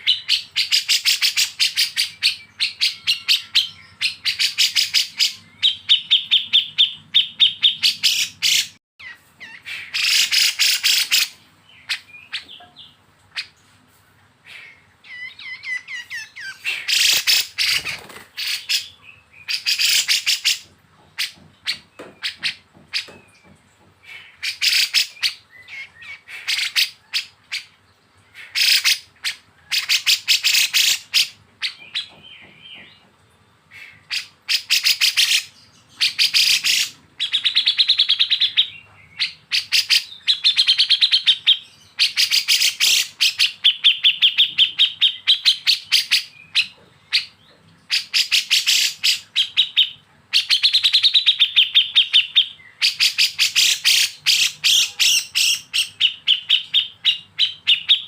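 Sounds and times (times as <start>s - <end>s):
birds harsh chattering: 0.0s - 58.0s.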